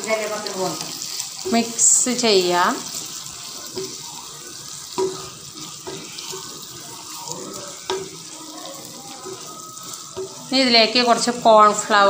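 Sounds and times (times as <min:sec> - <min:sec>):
food sizzling in frying pan: 0:00.0 - 0:12.0
spatula scraping pan: 0:00.3 - 0:12.0.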